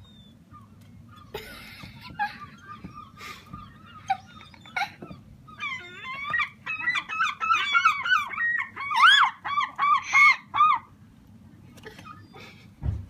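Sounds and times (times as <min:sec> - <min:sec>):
gulls squawking: 0:00.0 - 0:11.0.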